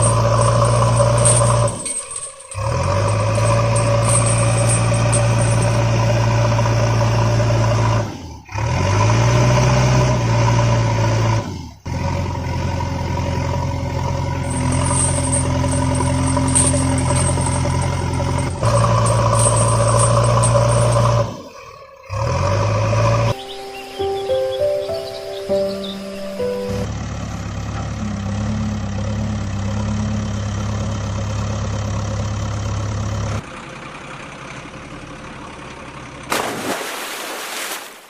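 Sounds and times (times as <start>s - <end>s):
tractor engine running: 0.0s - 36.3s.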